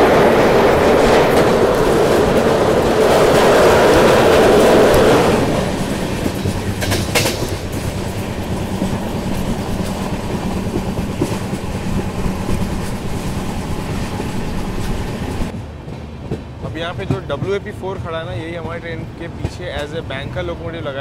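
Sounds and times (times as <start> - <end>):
wind rush: 0.0 - 17.0
rail-joint clacks: 0.0 - 21.0
train wheels rumbling on rail: 0.0 - 21.0.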